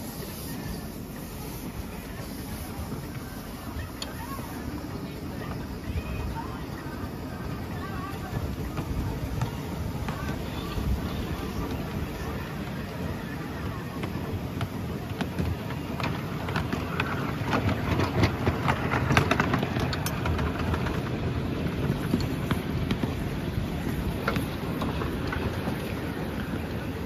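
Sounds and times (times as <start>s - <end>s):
miniature steam locomotive running: 0.0s - 27.0s.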